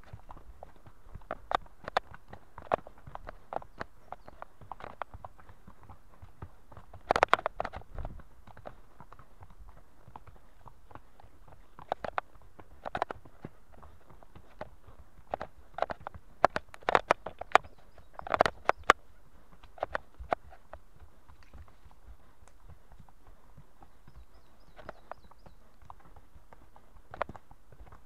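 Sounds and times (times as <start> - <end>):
pony hooves on earth and stone: 0.0 - 28.0.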